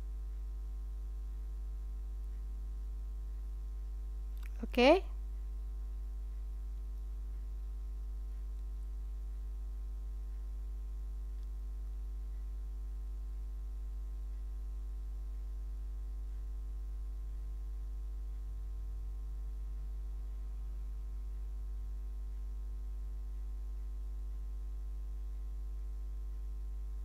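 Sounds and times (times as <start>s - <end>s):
mains hum: 0.0s - 27.0s.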